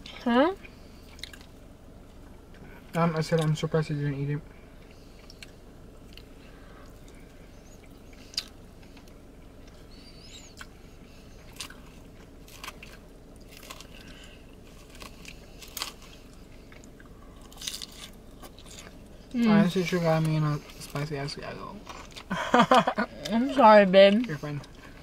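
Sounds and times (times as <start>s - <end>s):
chewing and crunching salad: 0.0s - 3.6s, 4.7s - 21.0s, 21.8s - 23.4s.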